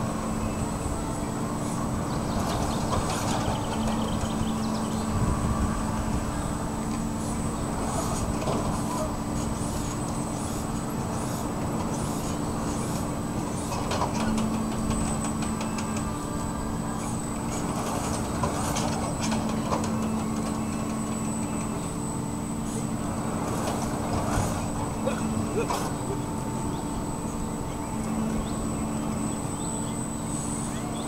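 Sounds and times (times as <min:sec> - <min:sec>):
ride machinery low hum: 0:00.0 - 0:31.0
thin high whine: 0:00.0 - 0:31.0.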